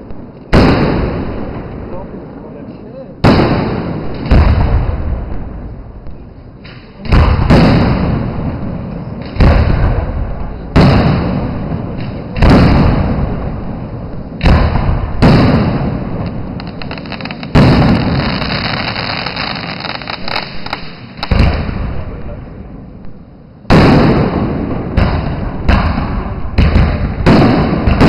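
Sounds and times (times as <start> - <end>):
firework shells booming: 0.0 - 2.1, 3.2 - 28.0
firework crackles: 3.2 - 28.0.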